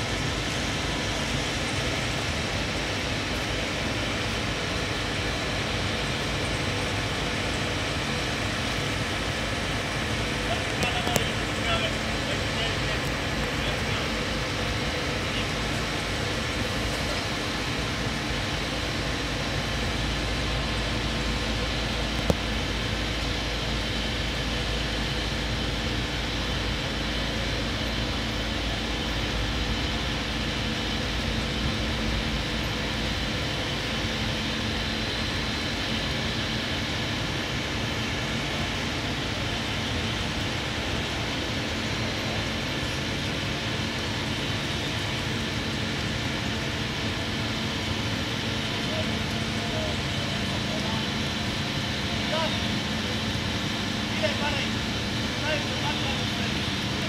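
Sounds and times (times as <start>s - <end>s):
crane engine running: 0.0s - 57.0s.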